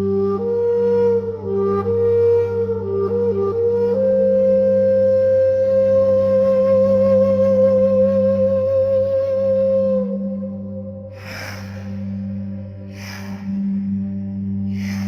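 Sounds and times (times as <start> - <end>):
flute long note: 0.0 - 15.0
low drone: 0.0 - 15.0.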